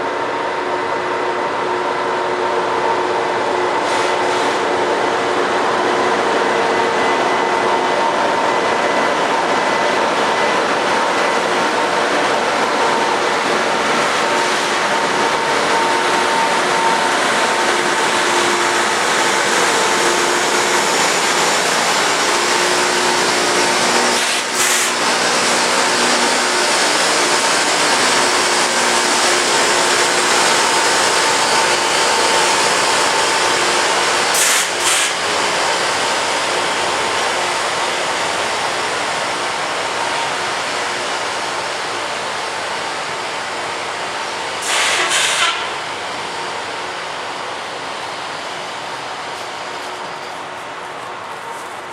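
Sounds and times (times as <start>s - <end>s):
train engines running: 0.0s - 51.9s
rail grinding hiss: 3.6s - 4.9s, 8.7s - 51.9s.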